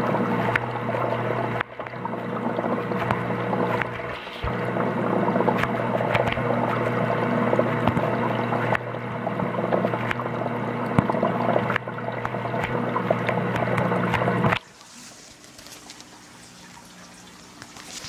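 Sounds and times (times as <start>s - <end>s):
aquarium pump humming: 0.0s - 18.0s
water bubbling: 0.0s - 18.0s.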